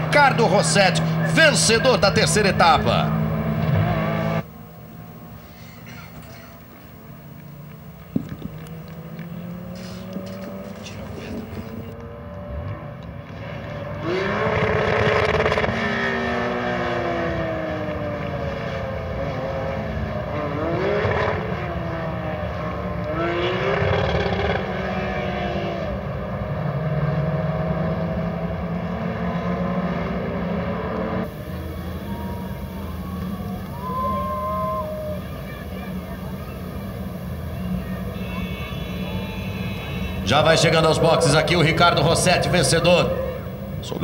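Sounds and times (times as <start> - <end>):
race car engines driving past: 0.0 - 44.0.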